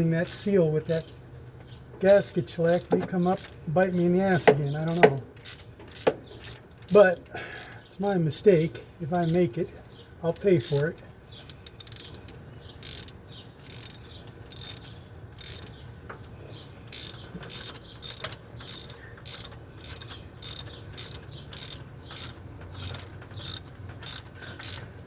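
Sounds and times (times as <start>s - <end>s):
metallic clicks and scrapes: 0.2s - 1.1s, 2.0s - 3.7s, 4.3s - 8.2s, 9.1s - 25.0s.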